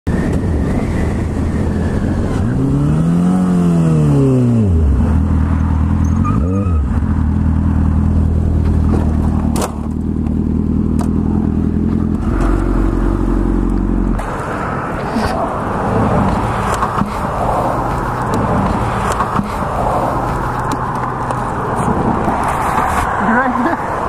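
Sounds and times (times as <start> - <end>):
motorcycle engine revving and idling: 0.4 - 21.9.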